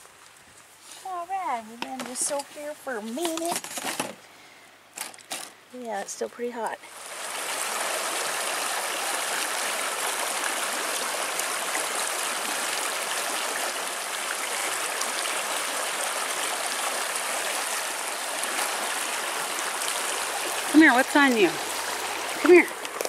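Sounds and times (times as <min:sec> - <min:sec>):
creek running over rocks: 0:00.0 - 0:04.2, 0:04.9 - 0:23.0.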